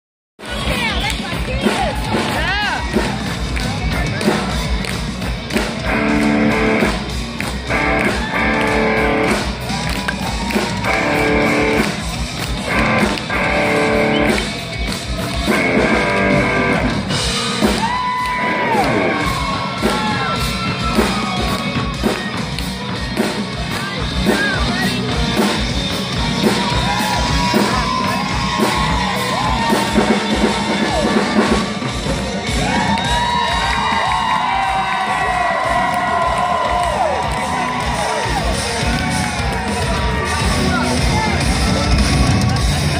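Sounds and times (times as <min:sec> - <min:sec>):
distorted electric guitar: 0:00.4 - 0:33.8, 0:34.4 - 0:42.9
drum kit pounding: 0:00.4 - 0:42.9.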